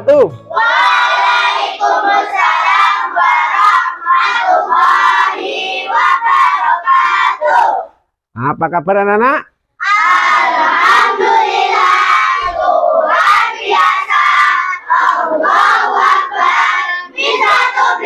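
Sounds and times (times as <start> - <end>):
children chanting in unison: 0.5 - 8.0, 9.8 - 18.0.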